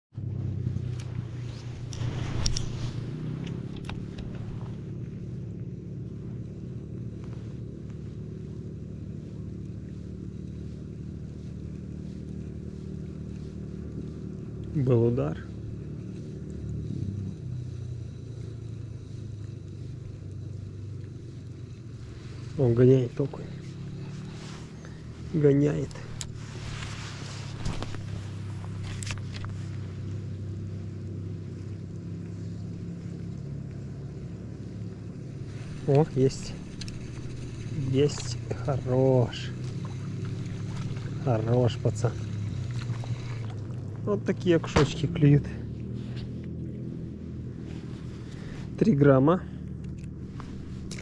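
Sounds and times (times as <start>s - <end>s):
engine humming steadily: 0.0s - 51.0s
low mechanical drone: 0.0s - 51.0s.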